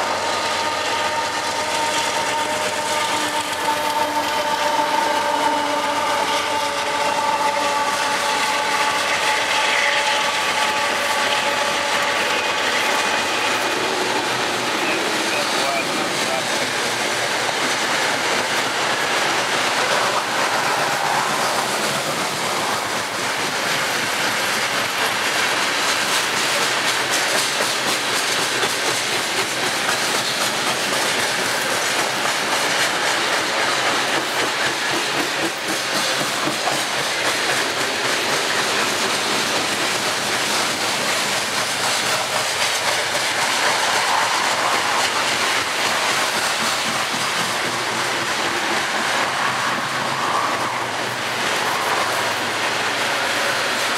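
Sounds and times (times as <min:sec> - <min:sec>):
steel train wheels on rails: 0:00.0 - 0:53.9.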